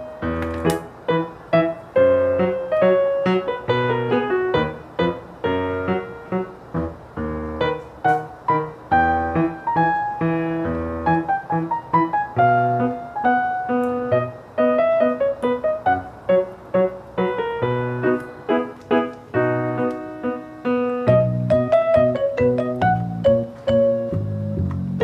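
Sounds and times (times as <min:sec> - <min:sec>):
light quick piano melody: 0:00.0 - 0:25.0.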